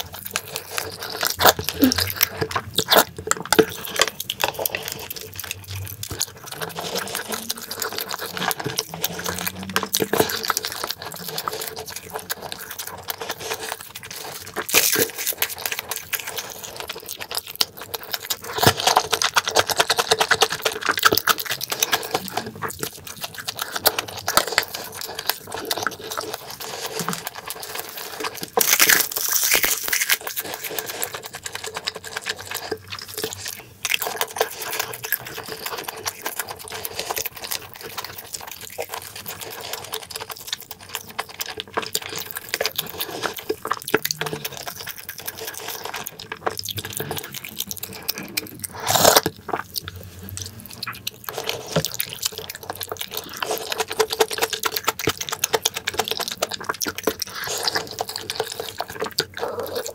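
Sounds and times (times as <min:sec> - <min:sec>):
chewing food: 0:00.0 - 0:59.9.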